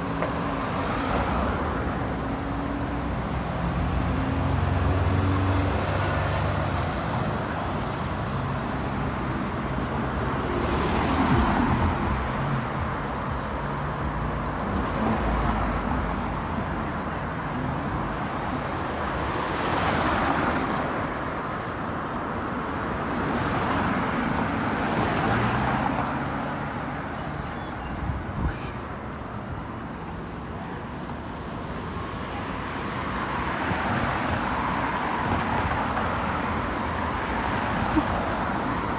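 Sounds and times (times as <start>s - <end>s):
cars and buses passing: 0.0s - 38.9s.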